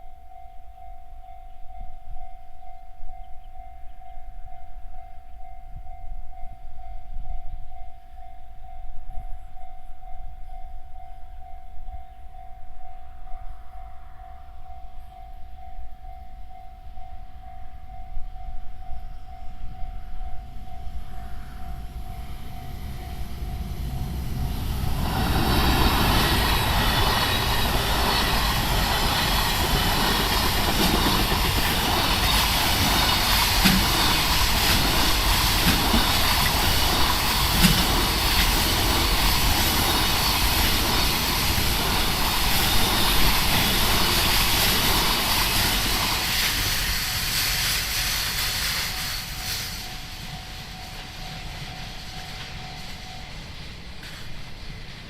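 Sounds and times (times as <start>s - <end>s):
level crossing warning bell: 0.0s - 45.9s, 48.9s - 54.0s
freight train passing: 0.0s - 55.0s.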